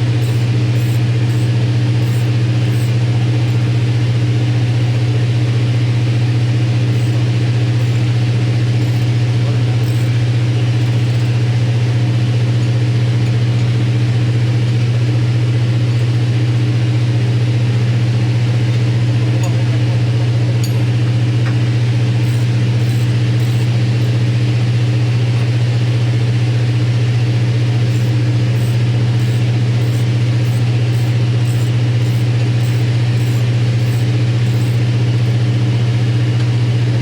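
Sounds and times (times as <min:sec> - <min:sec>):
machinery low drone: 0:00.0 - 0:37.0.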